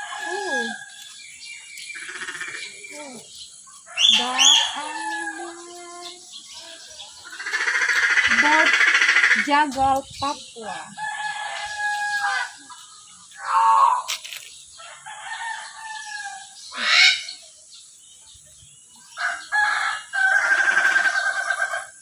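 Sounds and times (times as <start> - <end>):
birds crowing calls: 0.0 - 22.0.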